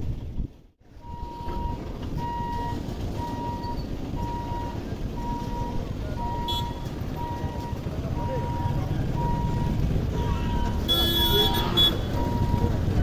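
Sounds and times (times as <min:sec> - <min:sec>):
road traffic: 0:00.0 - 0:13.0
wind rumble: 0:00.0 - 0:13.0
level-crossing warning beeps: 0:01.0 - 0:13.0.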